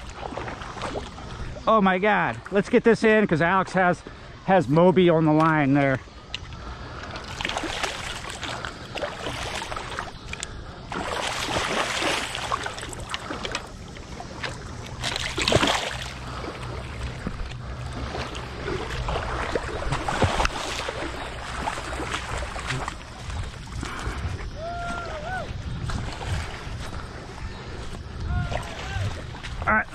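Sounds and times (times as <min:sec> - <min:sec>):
fish thrashing and splashing: 0:00.0 - 0:01.6, 0:06.4 - 0:29.9.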